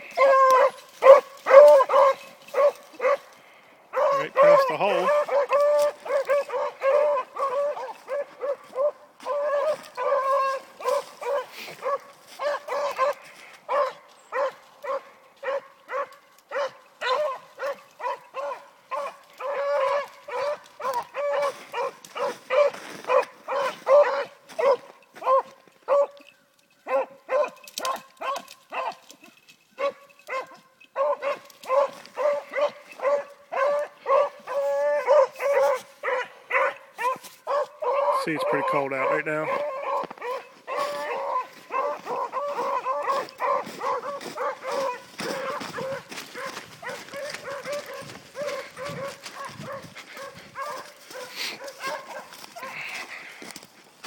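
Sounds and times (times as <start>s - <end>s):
hounds baying: 0.0s - 53.8s.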